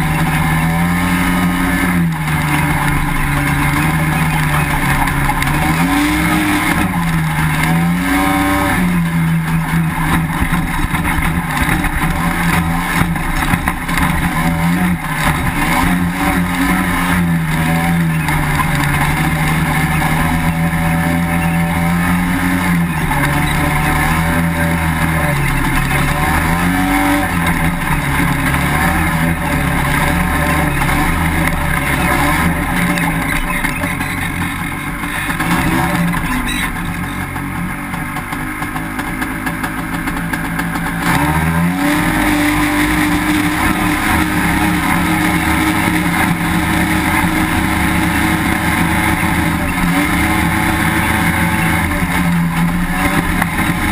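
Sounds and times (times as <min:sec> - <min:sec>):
dune buggy engine revving: 0:00.0 - 0:53.9.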